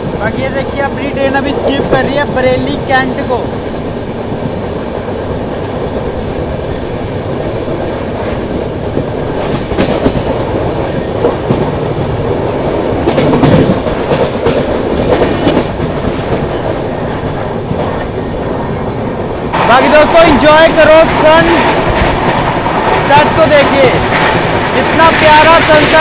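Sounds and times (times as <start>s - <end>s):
clickety-clack over rail joints: 0.0s - 26.0s
train wheels rumbling on track: 0.0s - 26.0s.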